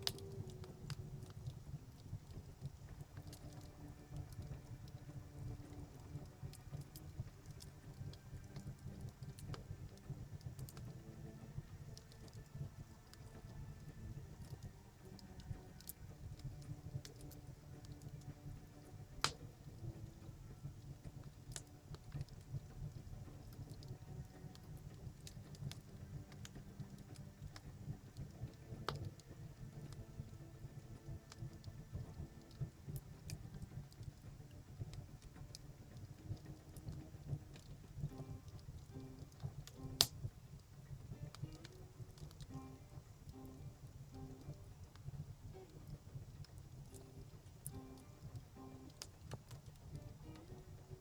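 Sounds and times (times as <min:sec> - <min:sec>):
low rumble of flame: 0:00.0 - 0:51.0
wood fire crackling and popping: 0:00.0 - 0:51.0.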